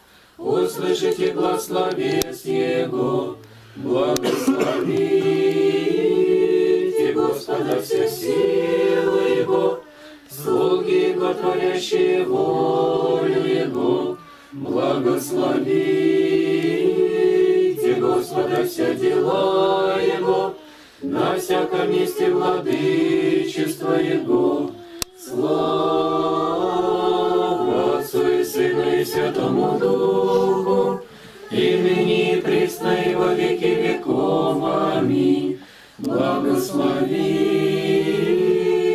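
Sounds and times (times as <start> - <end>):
congregation chanting a cappella: 0.0 - 38.9.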